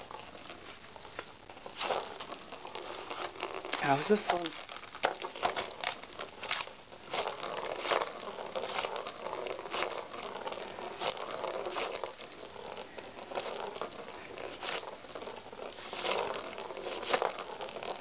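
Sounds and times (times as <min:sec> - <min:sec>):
plastic ball rolling and rattling: 0:00.0 - 0:18.0.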